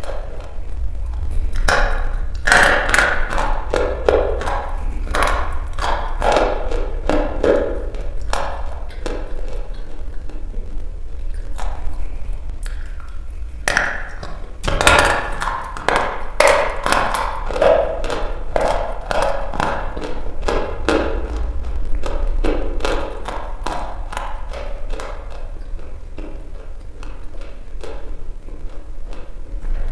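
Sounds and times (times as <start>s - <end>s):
chalk being chewed crunching: 0.0s - 29.9s.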